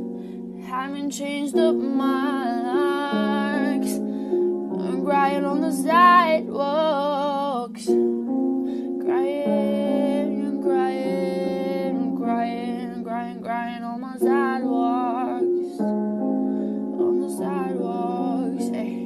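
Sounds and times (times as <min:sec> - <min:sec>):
sustained piano chords: 0:00.0 - 0:19.0
person singing: 0:00.6 - 0:08.0, 0:08.8 - 0:15.9, 0:17.0 - 0:19.0.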